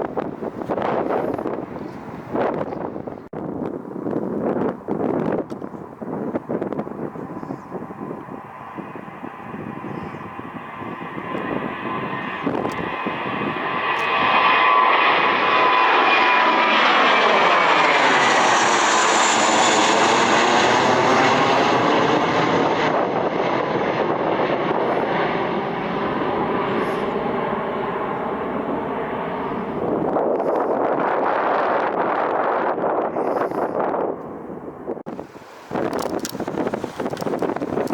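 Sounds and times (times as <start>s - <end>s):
jet airliner taking off: 6.0s - 37.9s.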